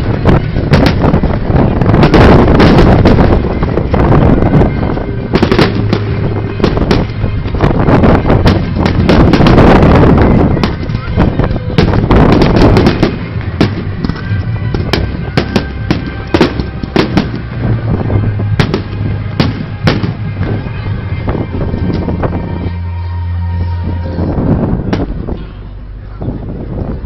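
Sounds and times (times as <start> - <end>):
fireworks bangs and crackle: 0.0 - 22.6.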